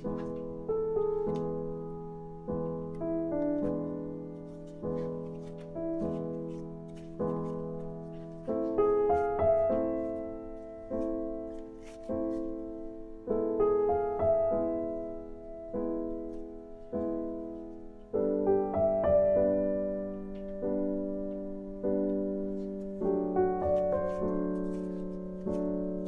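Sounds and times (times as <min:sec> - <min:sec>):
soft piano chords: 0:00.0 - 0:26.0.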